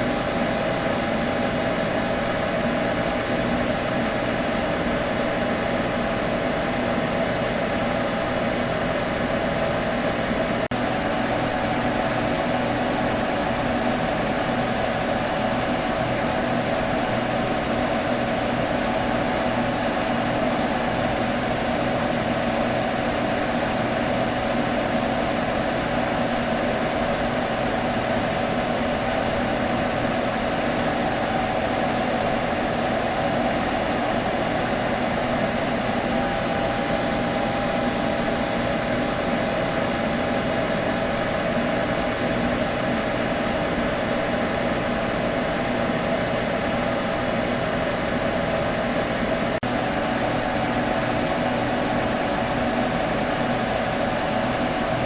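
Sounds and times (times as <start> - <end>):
computer fans whirring: 0.0 - 55.0.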